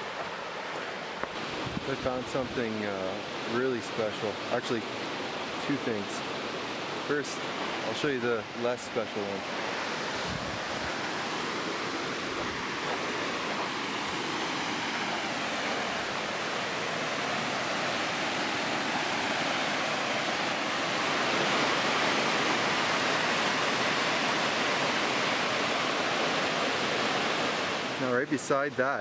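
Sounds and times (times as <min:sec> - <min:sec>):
whitewater rushing over rock: 0:00.0 - 0:29.0.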